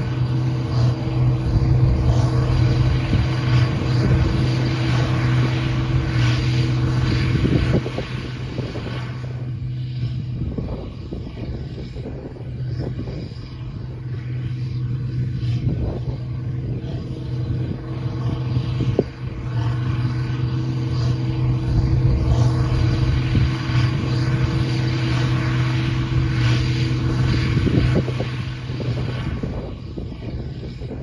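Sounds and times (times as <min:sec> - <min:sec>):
diesel tractor engine drone: 0:00.0 - 0:31.0.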